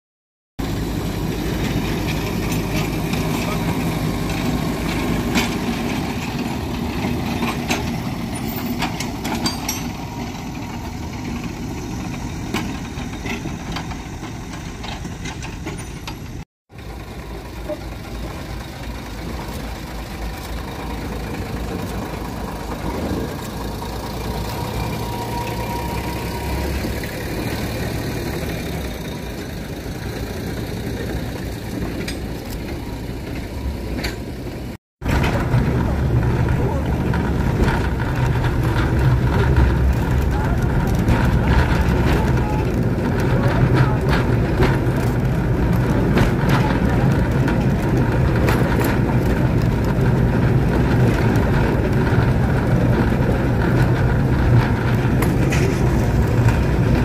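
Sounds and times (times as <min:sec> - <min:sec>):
locomotive engine humming: 0:00.6 - 0:57.0.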